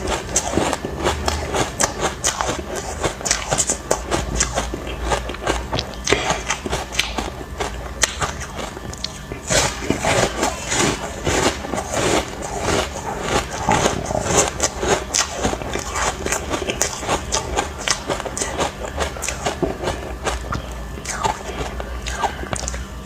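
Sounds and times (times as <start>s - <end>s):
ice crunching between teeth: 0.0s - 22.8s.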